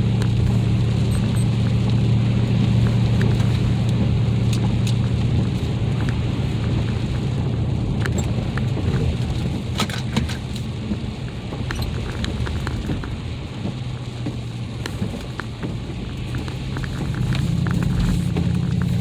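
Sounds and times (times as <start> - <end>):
engine and tyre hum: 0.0 - 19.0
sharp ticks and crackles: 0.0 - 19.0.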